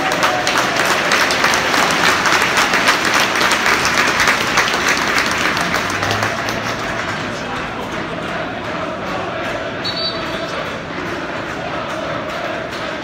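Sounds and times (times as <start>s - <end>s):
crowd clapping and applauding: 0.0s - 13.0s.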